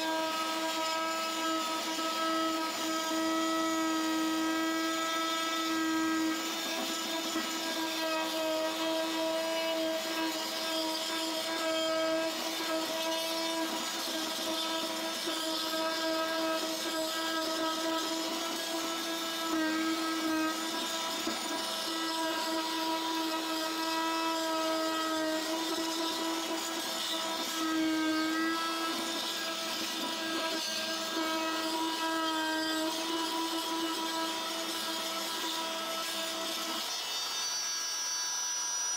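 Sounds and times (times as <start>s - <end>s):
oscillating multitool grinding grout: 0.0s - 38.9s.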